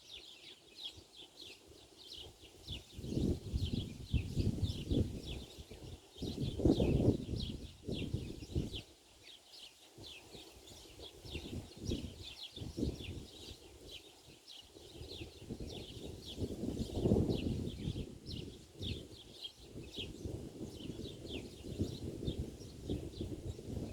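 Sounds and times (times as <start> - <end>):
small birds chirping: 0.0 - 23.9
wind rumble on microphone: 2.2 - 9.0, 10.0 - 23.9.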